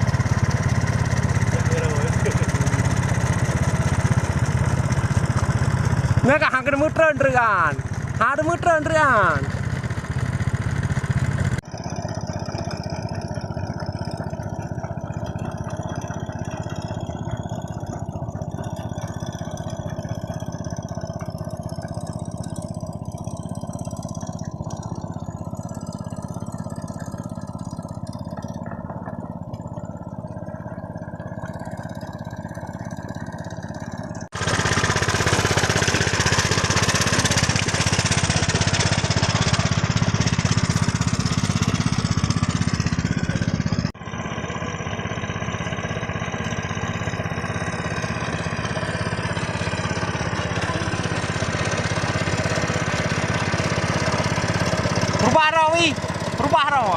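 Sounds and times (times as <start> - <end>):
hand tractor engine running: 0.0 - 56.9.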